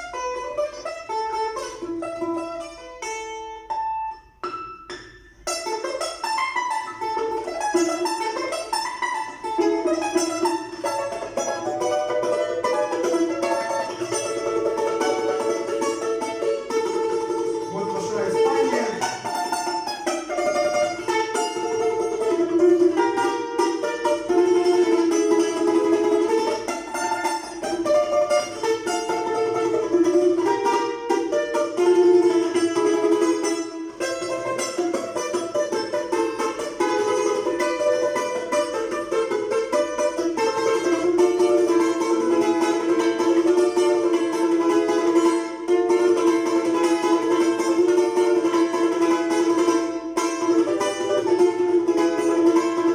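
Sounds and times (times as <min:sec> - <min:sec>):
balalaika plucked melody: 0:00.0 - 0:52.9.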